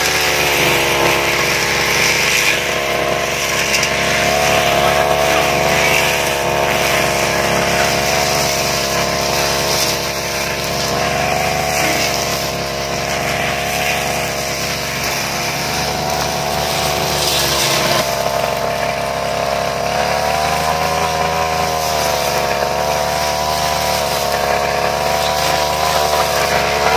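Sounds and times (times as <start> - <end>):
brush cutter engine cutting grass: 0.0 - 26.9.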